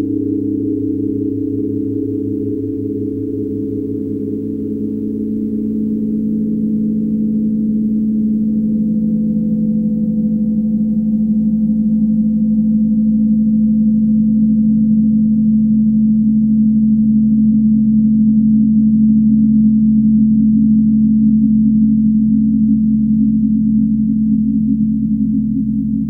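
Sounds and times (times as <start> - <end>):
low drone of held tones: 0.0 - 26.0.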